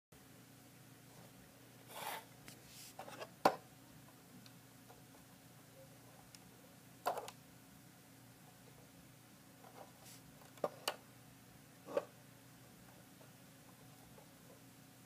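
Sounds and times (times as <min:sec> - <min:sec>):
faint steady hum: 0:00.2 - 0:15.0.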